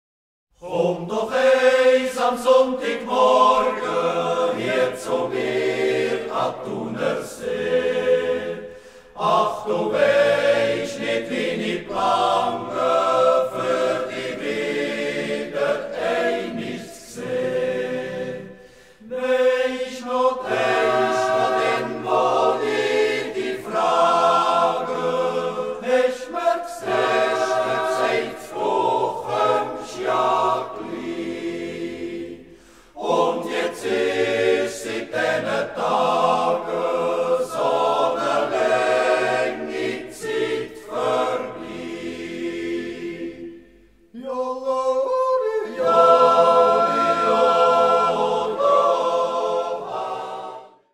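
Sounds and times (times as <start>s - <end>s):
choir singing with music: 0.5s - 50.9s.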